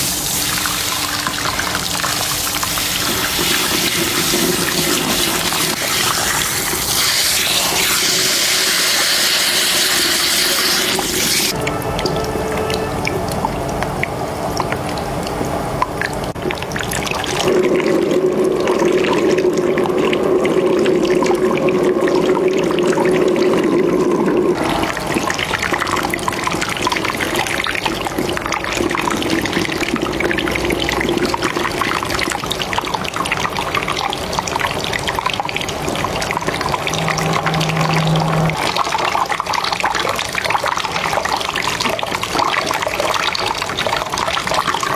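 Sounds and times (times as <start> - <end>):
water running over hair: 0.0 - 38.6.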